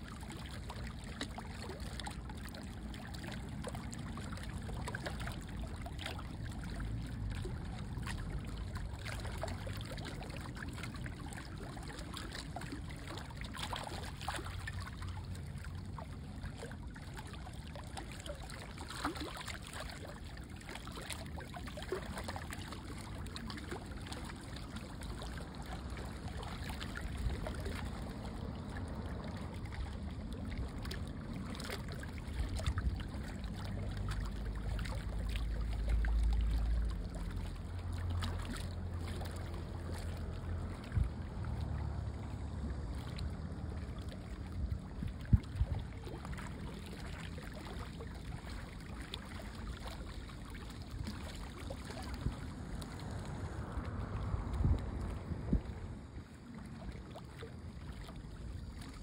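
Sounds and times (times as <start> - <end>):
small water splashes: 0.0 - 59.0
steady low rumble: 0.0 - 59.0
water lapping and trickling: 0.0 - 59.0.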